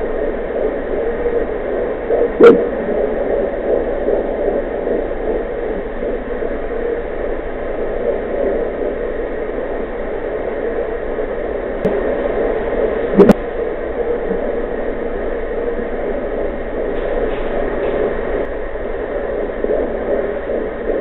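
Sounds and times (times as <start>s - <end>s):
pulsing heartbeat whoosh: 0.0s - 21.0s.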